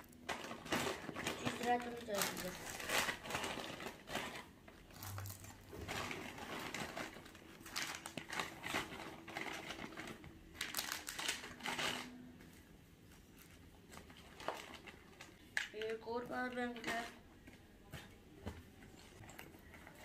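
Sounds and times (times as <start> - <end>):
plastic wrappers crinkling: 0.0 - 12.3, 13.2 - 17.2.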